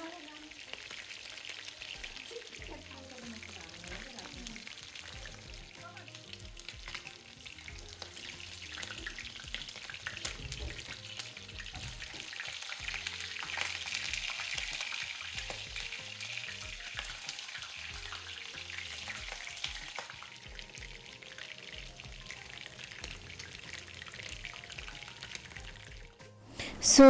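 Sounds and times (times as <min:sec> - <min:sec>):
chicken deep-frying in hot oil: 0:00.0 - 0:26.5.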